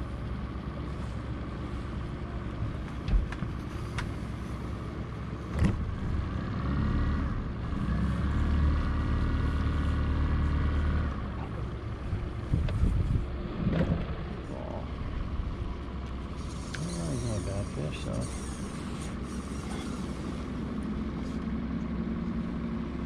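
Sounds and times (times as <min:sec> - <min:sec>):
boat motor running: 0:00.0 - 0:07.6, 0:08.9 - 0:23.0.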